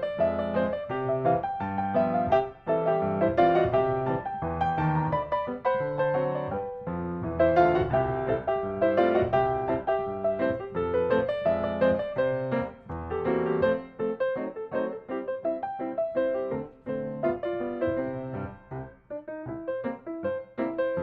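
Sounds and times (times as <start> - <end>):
piano melody with chords: 0.0 - 21.0.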